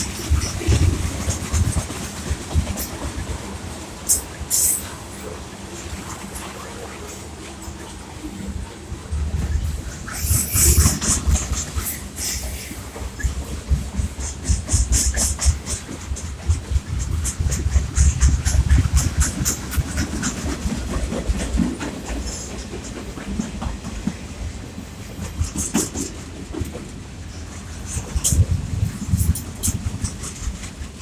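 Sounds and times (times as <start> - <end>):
freight train rumble: 0.0 - 31.0
wheels clattering over rail joints: 0.0 - 31.0.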